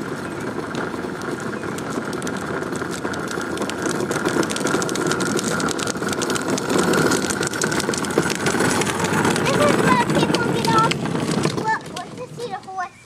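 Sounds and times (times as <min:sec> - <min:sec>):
pull wagon rattling over ground: 0:00.0 - 0:13.0.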